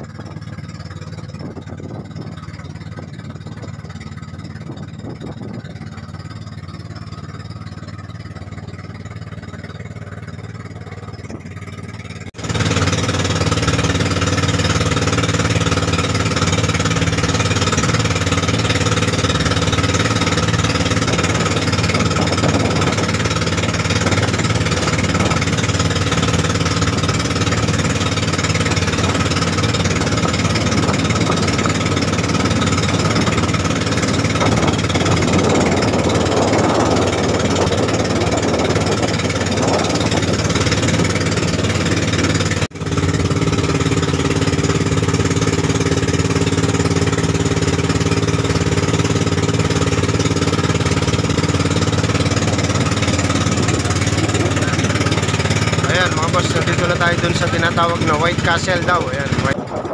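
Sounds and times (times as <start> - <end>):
boat engine knocking drone: 0.0 - 59.9
water splashing against hull: 0.0 - 59.9.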